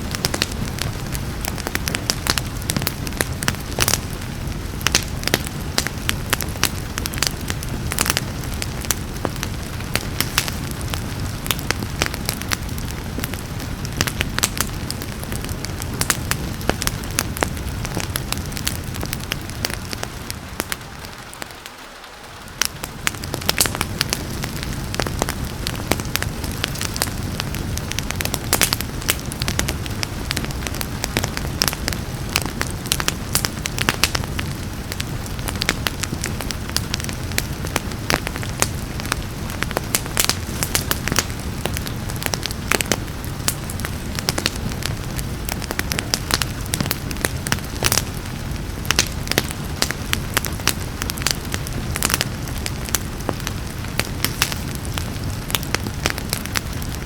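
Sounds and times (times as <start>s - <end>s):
rain hiss: 0.0s - 57.0s
wood fire crackling and popping: 0.0s - 57.0s.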